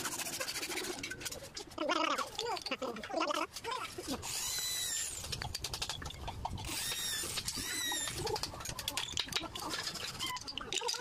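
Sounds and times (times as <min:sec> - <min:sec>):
scraping bamboo tube: 0:00.0 - 0:11.0.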